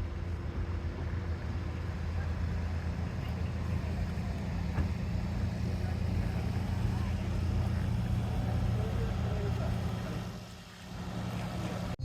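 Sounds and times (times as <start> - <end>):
car engine idling: 0.0 - 12.0
faint voices: 0.2 - 12.0.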